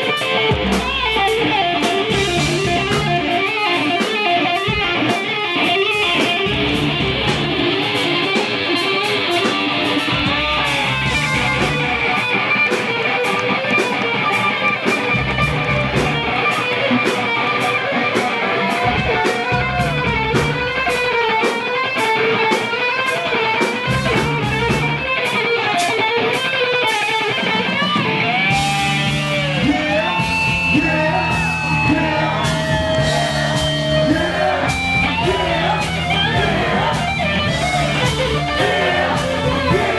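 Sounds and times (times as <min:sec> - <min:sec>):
bass line: 0:00.0 - 0:12.5, 0:13.4 - 0:21.5, 0:23.2 - 0:25.2, 0:28.0 - 0:39.9
drum beat: 0:00.0 - 0:25.1, 0:28.4 - 0:39.9
electric guitar riff: 0:00.0 - 0:39.9.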